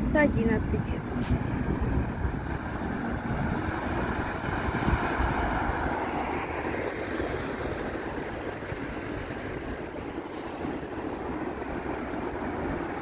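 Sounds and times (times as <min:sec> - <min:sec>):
vehicle passing: 0:00.0 - 0:13.0
wind rumbling on microphone: 0:00.0 - 0:13.0.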